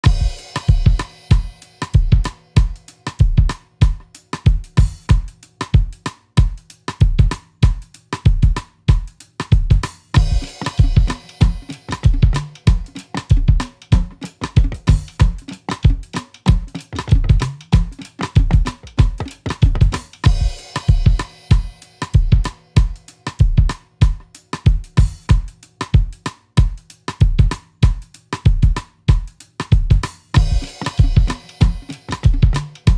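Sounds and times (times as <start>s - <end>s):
drum kit beat: 0.0s - 32.9s.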